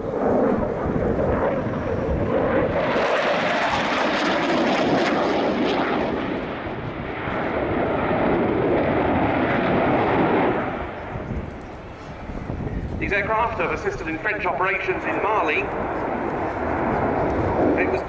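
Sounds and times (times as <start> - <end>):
fighter jet engines roaring: 0.0 - 18.0.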